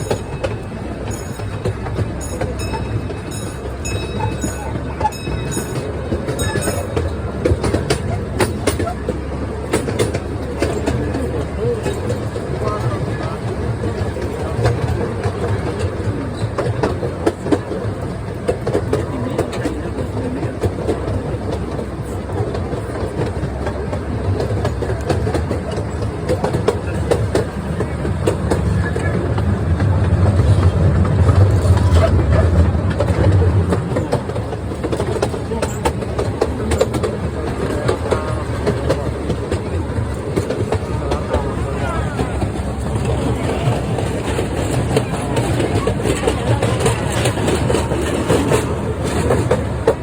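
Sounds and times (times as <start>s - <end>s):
small train rumbling: 0.0s - 50.0s
wheels clicking on track: 0.0s - 50.0s.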